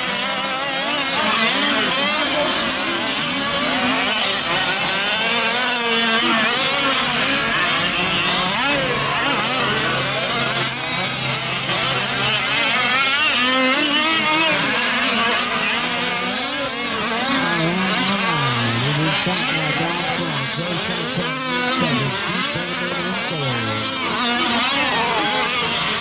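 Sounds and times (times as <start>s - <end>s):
rc truck engines racing: 0.0s - 26.0s.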